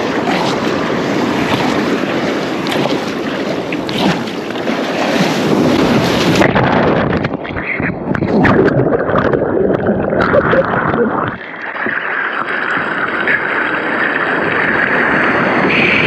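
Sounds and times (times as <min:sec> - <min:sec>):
water splashing around kayak: 0:00.0 - 0:16.0
wind on microphone: 0:00.0 - 0:16.0.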